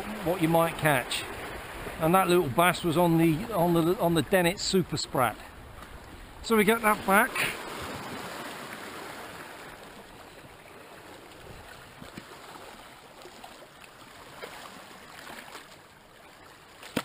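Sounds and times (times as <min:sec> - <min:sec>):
sea water lapping against rocks: 0:00.0 - 0:17.0.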